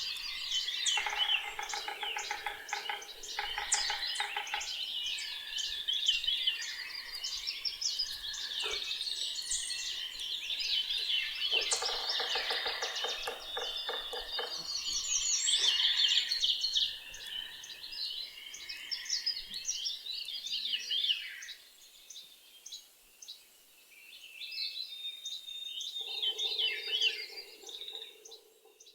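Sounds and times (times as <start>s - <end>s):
songbirds singing: 0.0s - 28.9s.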